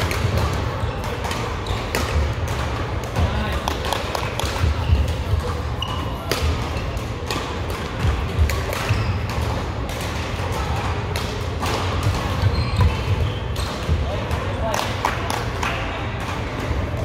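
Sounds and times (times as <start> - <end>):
racket hitting shuttlecock: 0.0 - 15.5.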